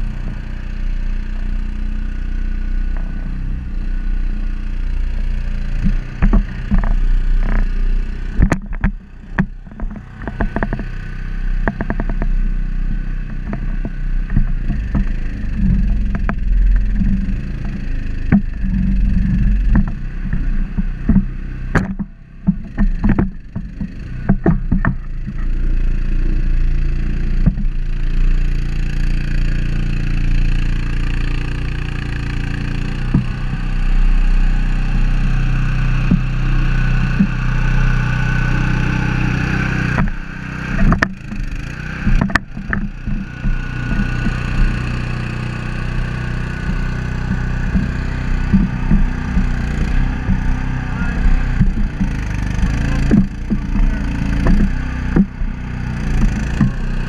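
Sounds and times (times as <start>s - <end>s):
log loader engine running: 0.0s - 57.0s
thin whine: 0.0s - 57.0s.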